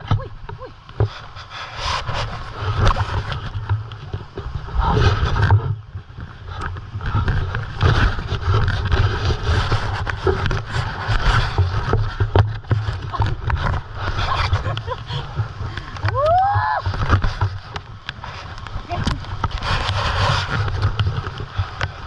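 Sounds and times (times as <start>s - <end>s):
water splashing around wading people: 0.0s - 22.0s.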